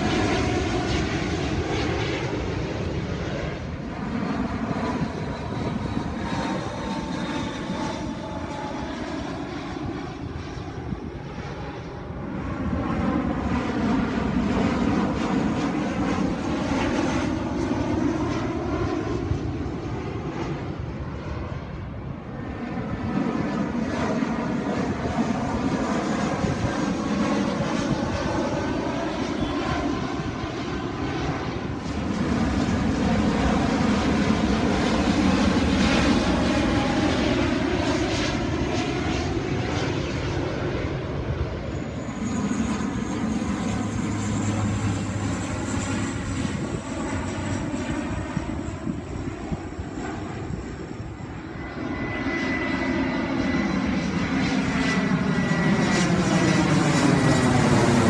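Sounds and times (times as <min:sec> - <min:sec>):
airliner engines passing overhead: 0:00.0 - 0:58.0.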